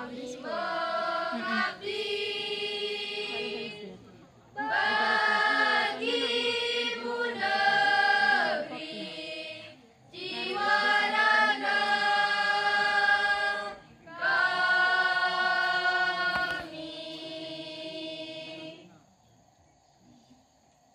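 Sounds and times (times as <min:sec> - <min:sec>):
children's choir singing unaccompanied: 0:00.0 - 0:18.9.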